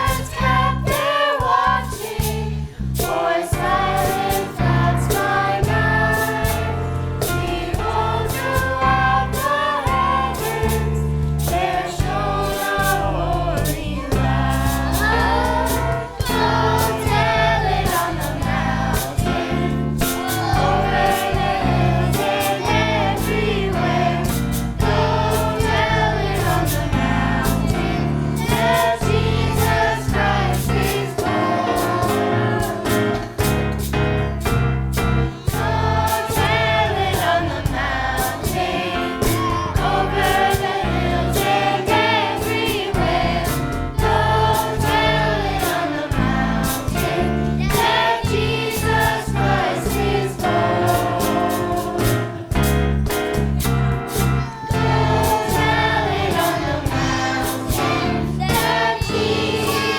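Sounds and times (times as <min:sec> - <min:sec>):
choir singing: 0:00.0 - 0:34.3, 0:35.2 - 0:52.6, 0:53.6 - 0:59.9
band with steady beat: 0:00.0 - 0:59.9.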